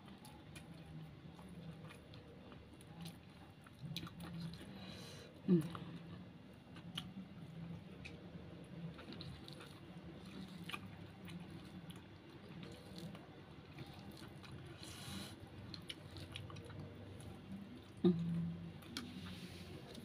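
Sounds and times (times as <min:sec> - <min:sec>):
chewing with wet mouth clicks: 0:00.0 - 0:04.8, 0:06.6 - 0:14.8, 0:15.4 - 0:19.3.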